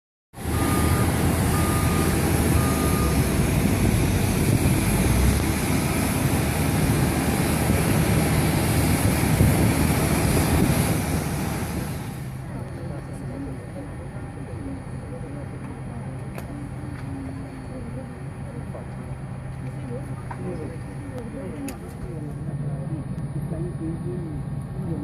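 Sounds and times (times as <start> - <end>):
airliner cabin engine rumble: 0.4 - 25.0.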